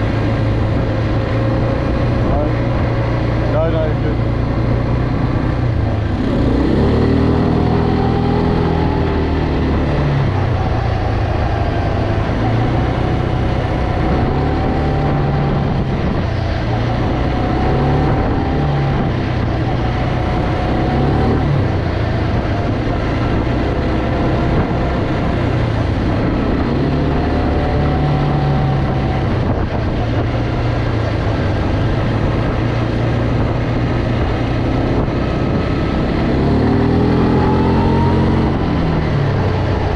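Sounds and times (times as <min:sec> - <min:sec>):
quad bike engine revving: 0:00.0 - 0:39.9
steady rush of noise: 0:00.0 - 0:39.9.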